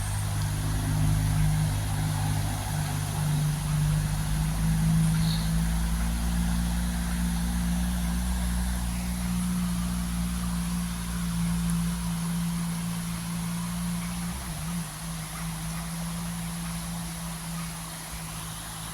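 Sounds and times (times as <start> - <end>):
engine humming: 0.0 - 18.9
steady hiss: 0.0 - 18.9.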